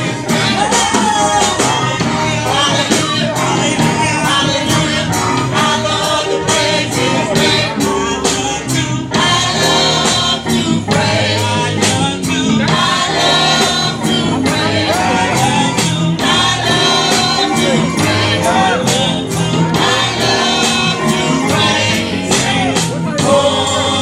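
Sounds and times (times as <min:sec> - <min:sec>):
gospel singing with band: 0:00.0 - 0:24.0.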